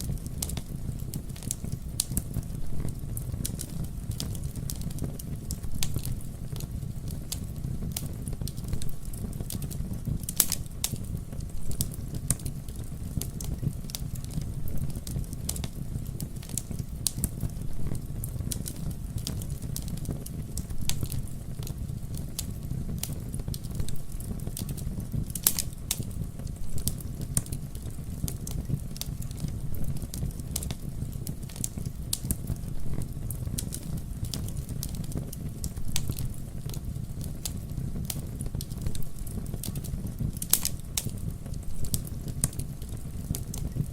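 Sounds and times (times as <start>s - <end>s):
burning wood crackling and popping: 0.0s - 43.9s
rumble of flames: 0.0s - 43.9s.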